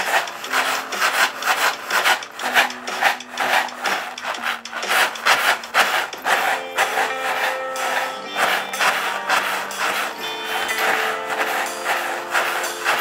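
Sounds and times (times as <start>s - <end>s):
paper plate shaker rattling: 0.0s - 13.0s.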